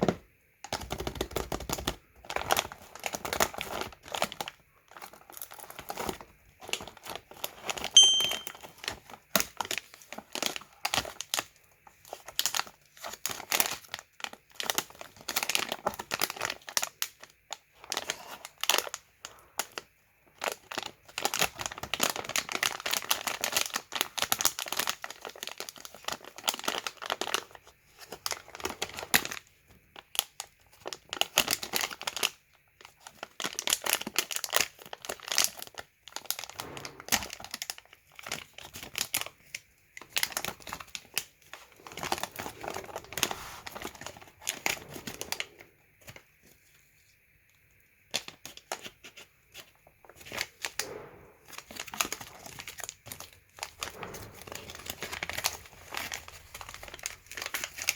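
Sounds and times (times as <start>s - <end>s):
candy wrapper crinkling: 0.0s - 57.9s.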